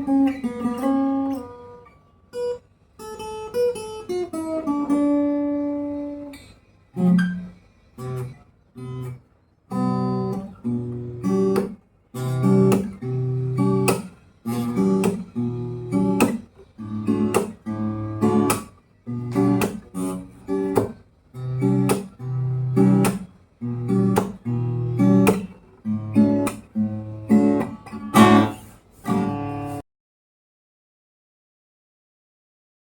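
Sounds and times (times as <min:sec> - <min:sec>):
acoustic guitar strummed chords: 0:00.0 - 0:29.8.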